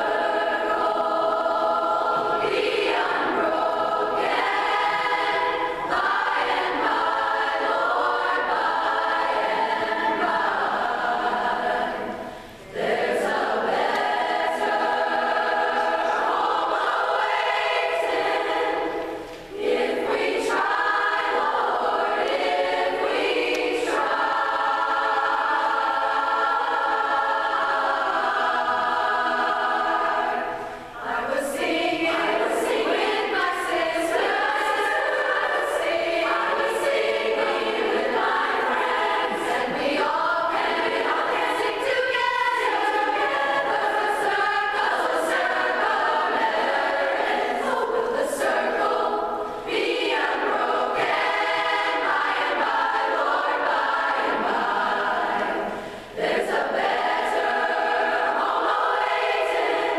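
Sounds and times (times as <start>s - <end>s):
large choir singing: 0.0s - 59.9s.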